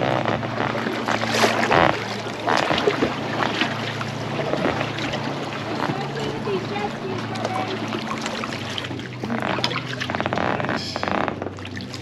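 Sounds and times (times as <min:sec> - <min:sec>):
kayak paddles splashing water: 0:00.0 - 0:12.0
steady low hum: 0:00.0 - 0:12.0
water lapping against hulls: 0:00.0 - 0:12.0.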